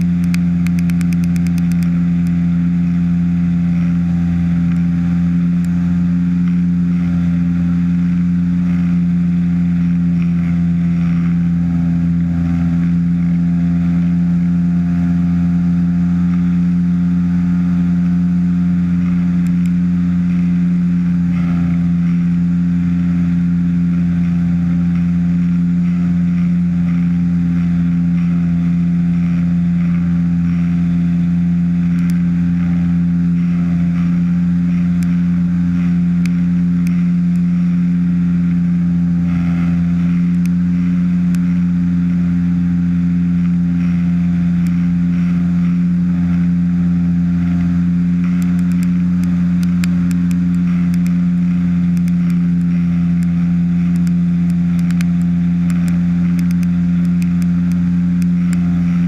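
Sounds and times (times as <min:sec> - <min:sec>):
engine and propeller drone: 0:00.0 - 0:59.0.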